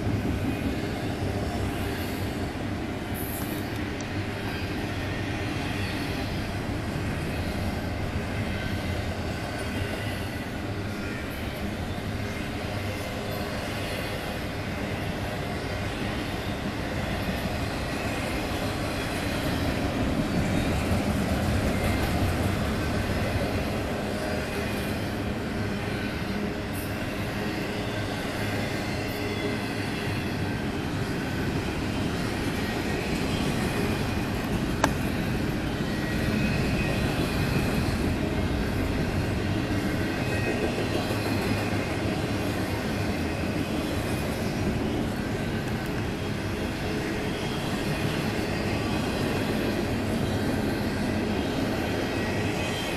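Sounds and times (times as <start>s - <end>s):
freight train wheels rumbling on rail: 0.0s - 52.9s.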